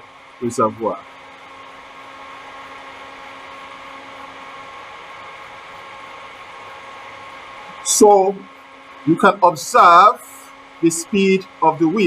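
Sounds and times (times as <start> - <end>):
constant whining tones: 0.0 - 12.0
lab equipment mechanical hum: 0.0 - 12.0.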